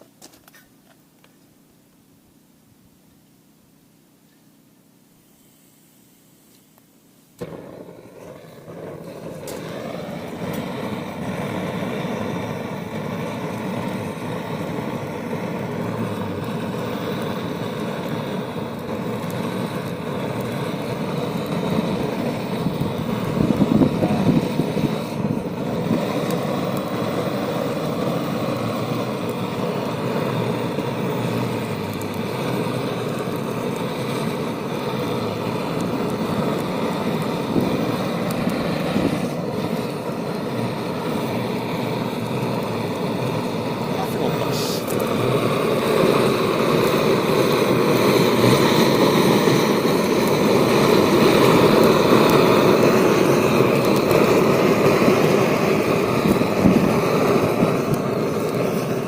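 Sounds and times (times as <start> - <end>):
gas torch flame rushing: 5.2 - 59.0.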